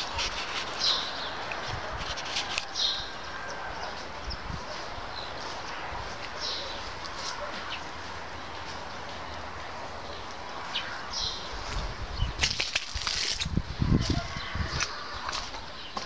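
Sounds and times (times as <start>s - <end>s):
faint outdoor noise: 0.0s - 16.0s.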